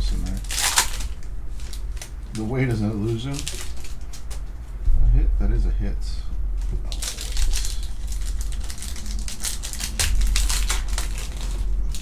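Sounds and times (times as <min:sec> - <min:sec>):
packaging crinkling and tearing: 0:00.0 - 0:04.6, 0:06.6 - 0:12.0.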